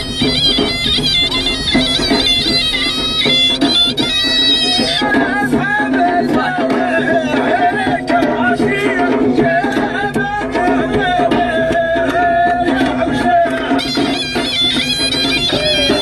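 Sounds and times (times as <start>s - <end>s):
reed shawm wailing melody: 0.0s - 16.0s
tabla drum strokes: 0.0s - 16.0s.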